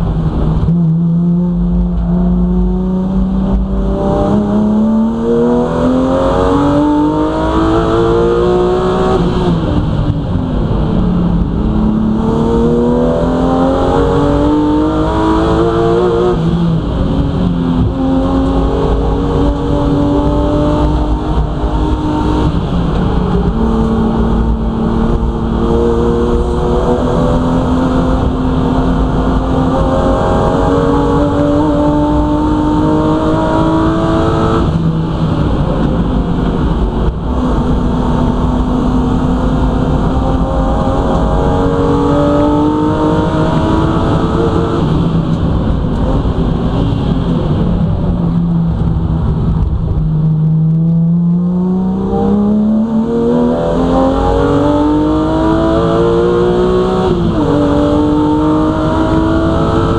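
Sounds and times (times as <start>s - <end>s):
race car engine revving: 0.0s - 59.9s
road and tyre noise: 0.0s - 59.9s.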